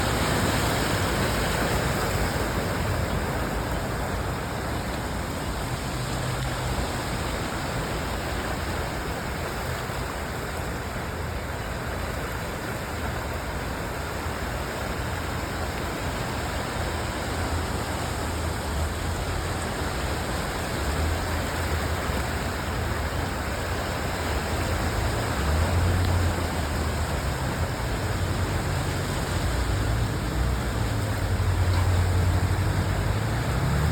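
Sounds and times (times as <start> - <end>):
vehicles rumbling through water: 0.0 - 33.9
water rushing over street: 0.0 - 33.9.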